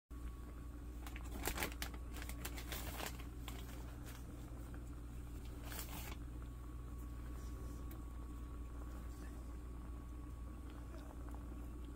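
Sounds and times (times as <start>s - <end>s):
low steady hum: 0.1s - 11.9s.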